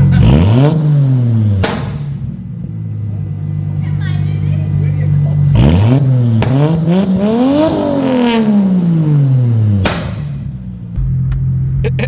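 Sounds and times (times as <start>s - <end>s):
car engine revving: 0.0s - 12.0s
exhaust bang: 0.0s - 12.0s.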